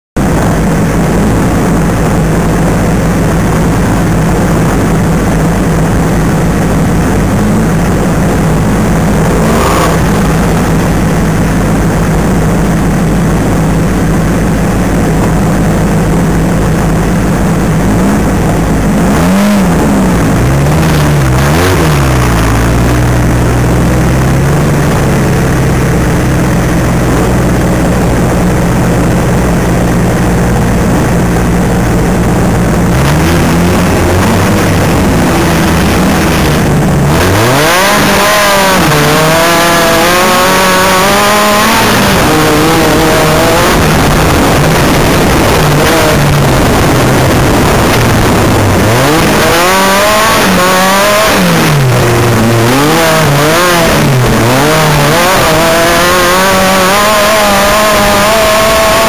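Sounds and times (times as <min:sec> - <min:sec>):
buggy engine idling and revving: 0:00.0 - 0:59.0.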